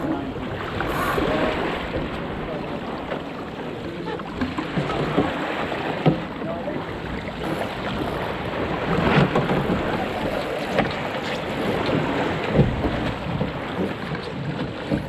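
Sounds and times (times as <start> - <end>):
water splashing along a hull: 0.0 - 15.0.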